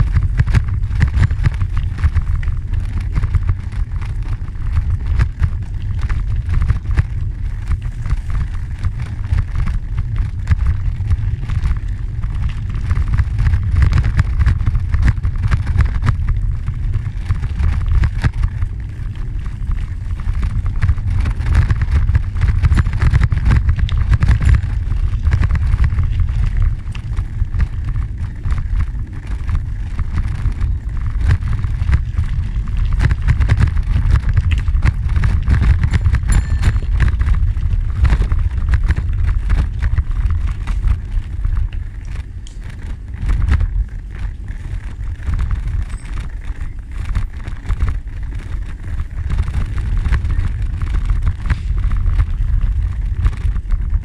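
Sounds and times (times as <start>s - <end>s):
tyres rolling on gravel: 0.0s - 54.0s
wind buffeting microphone: 0.0s - 54.0s.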